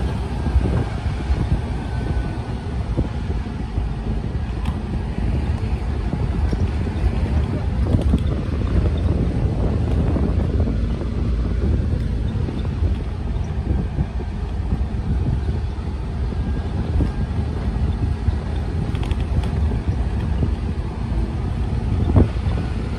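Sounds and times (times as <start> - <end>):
car rumbling on gravel: 0.0 - 22.9
wind buffeting microphone: 0.0 - 22.9.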